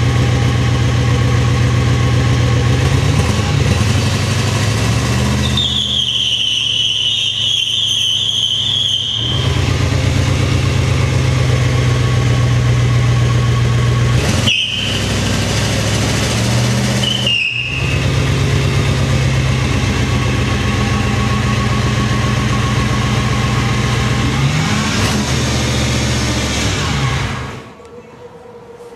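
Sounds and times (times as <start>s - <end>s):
engine running steadily: 0.0s - 5.9s, 9.1s - 28.0s.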